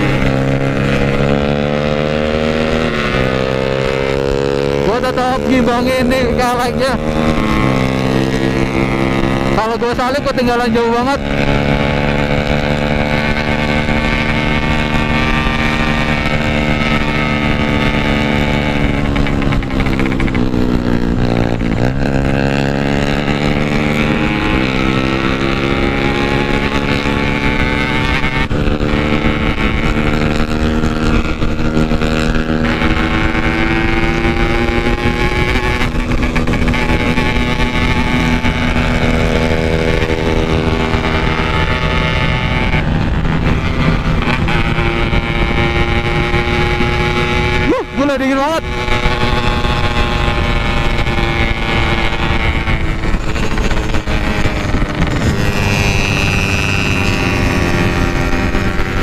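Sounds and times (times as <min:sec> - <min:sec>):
two-stroke motorcycle engine: 0:00.0 - 0:59.0.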